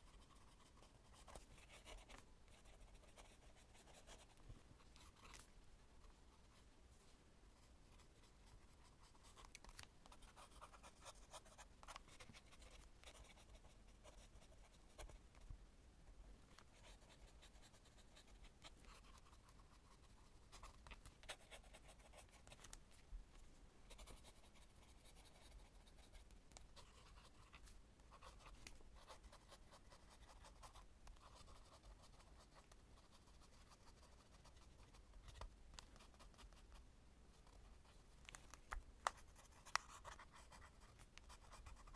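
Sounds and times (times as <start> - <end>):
pen nib scratching on paper: 0.0 - 5.4, 7.9 - 15.2, 16.5 - 22.8, 23.9 - 36.8, 37.5 - 41.9.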